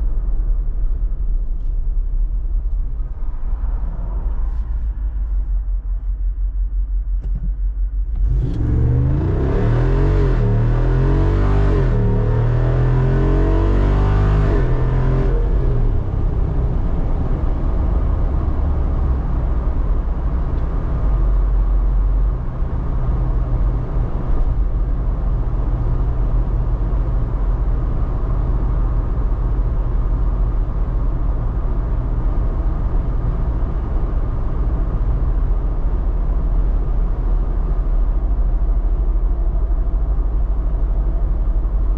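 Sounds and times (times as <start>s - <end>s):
car engine accelerating: 7.1s - 41.9s.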